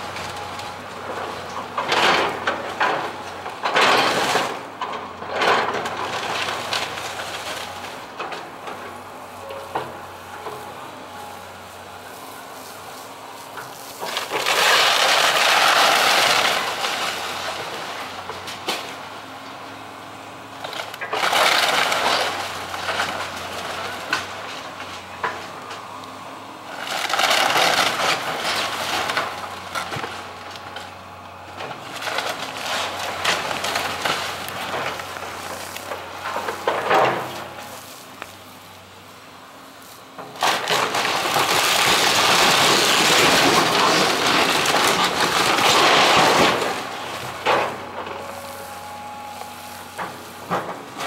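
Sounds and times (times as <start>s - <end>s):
wood and roofing crunching and cracking: 0.0s - 10.8s, 11.8s - 38.5s, 40.0s - 51.0s
excavator engine hum: 0.0s - 51.0s.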